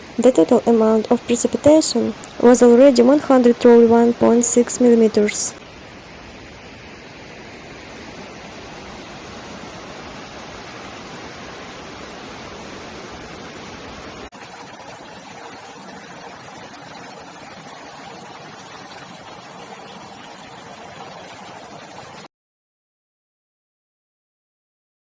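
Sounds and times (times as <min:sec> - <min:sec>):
floodwater rushing: 0:00.0 - 0:05.8, 0:06.9 - 0:22.3.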